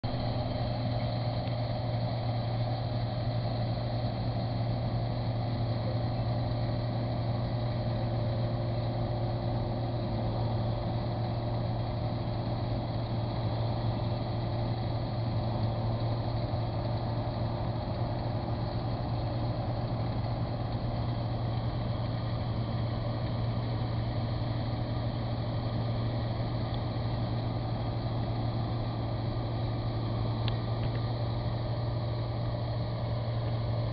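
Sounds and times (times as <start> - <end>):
combine harvester droning: 0.0 - 33.9.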